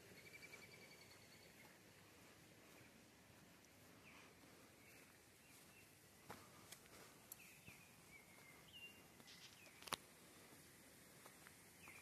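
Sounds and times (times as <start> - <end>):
faint bird chirps: 0.0 - 6.6, 7.2 - 10.0, 11.7 - 12.0.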